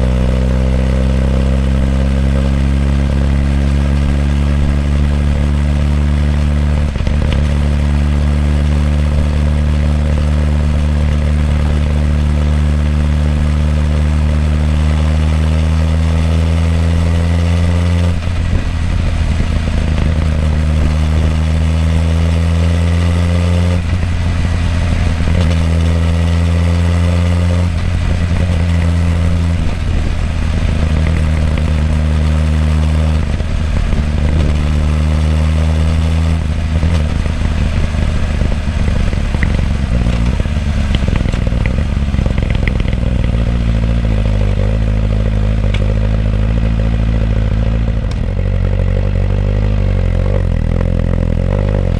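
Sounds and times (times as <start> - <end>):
motorcycle exhaust: 0.0 - 51.9.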